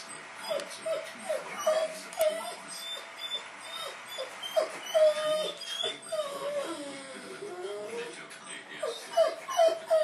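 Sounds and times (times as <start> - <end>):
dog whining: 0.1 - 8.2, 8.8 - 10.0.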